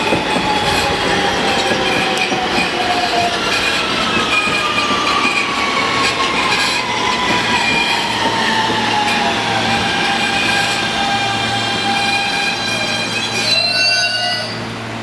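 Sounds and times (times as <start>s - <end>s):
subway train rumble and wheel noise: 0.0s - 15.0s.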